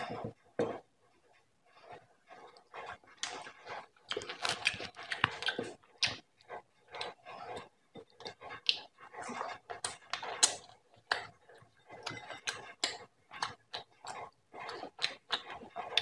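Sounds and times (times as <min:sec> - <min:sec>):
wet chewing and lip smacking: 0:02.4 - 0:16.0.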